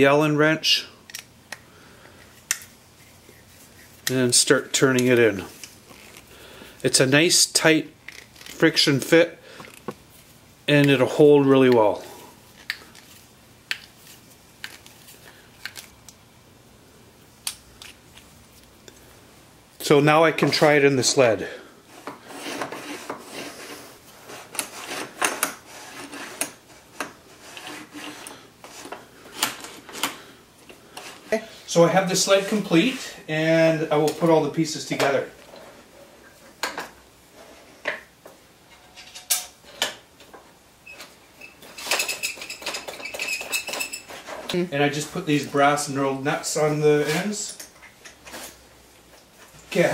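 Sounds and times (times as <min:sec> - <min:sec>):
faint room noise: 0:00.0 - 0:49.9.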